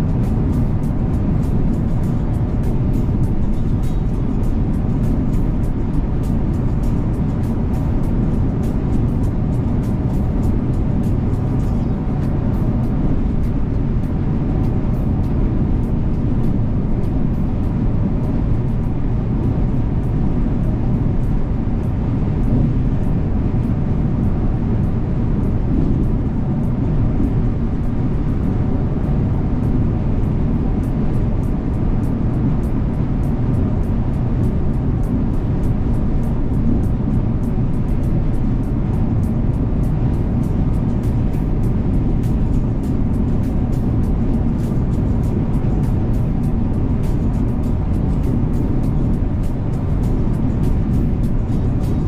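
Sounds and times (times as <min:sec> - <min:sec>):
coach diesel engine drone: 0:00.0 - 0:52.0
road noise: 0:00.0 - 0:52.0.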